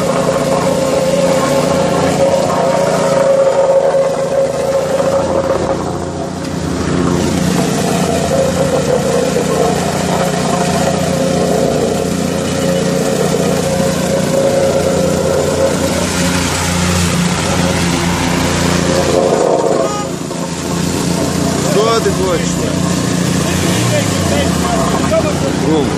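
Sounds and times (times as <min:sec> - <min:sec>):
plate compactor engine running: 0:00.0 - 0:25.9.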